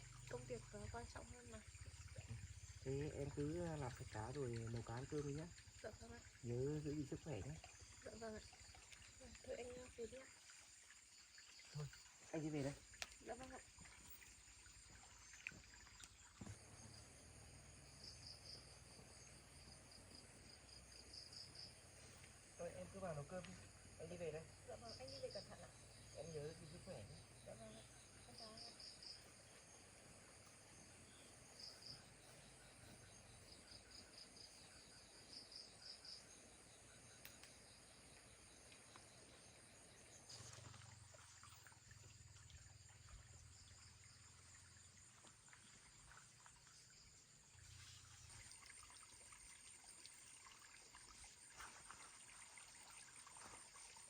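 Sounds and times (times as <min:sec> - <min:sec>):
insect chirping trills: 0:00.0 - 0:54.0
trickle of running water: 0:00.0 - 0:54.0.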